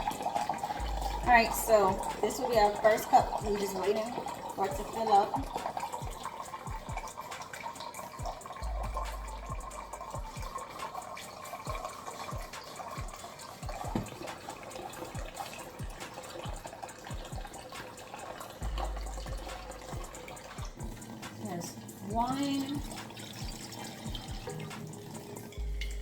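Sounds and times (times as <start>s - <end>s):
water trickling into cup: 0.0s - 26.0s.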